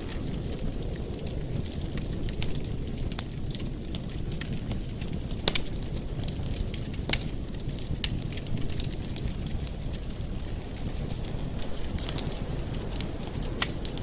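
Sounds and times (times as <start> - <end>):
campfire low rumble: 0.0 - 14.0
wood crackling and popping: 0.0 - 14.0.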